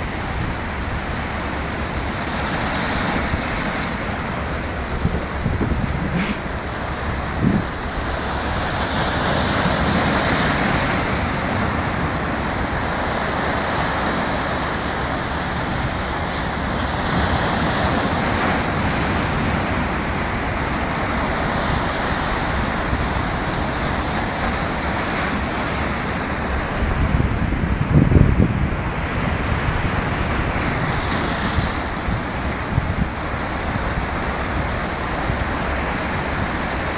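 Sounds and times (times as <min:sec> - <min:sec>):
surf crashing on rocks: 0:00.0 - 0:36.9.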